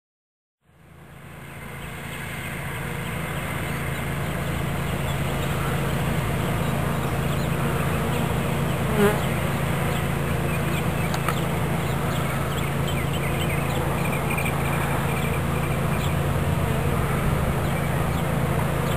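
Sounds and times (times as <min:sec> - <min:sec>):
honeybee swarm buzzing: 0:01.0 - 0:18.9.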